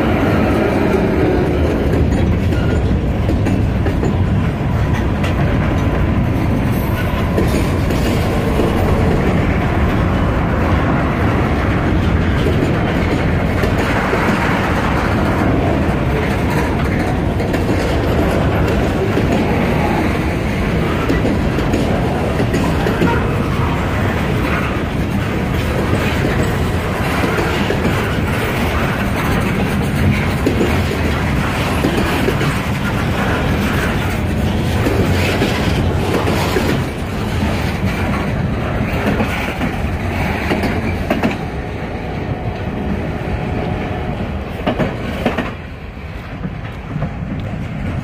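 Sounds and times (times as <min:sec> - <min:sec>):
train wheels clattering over rails: 0:00.0 - 0:48.0.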